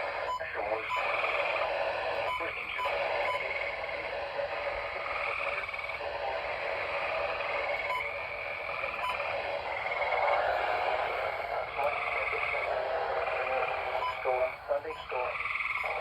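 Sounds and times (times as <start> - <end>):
tree frogs calling: 0.0 - 16.0.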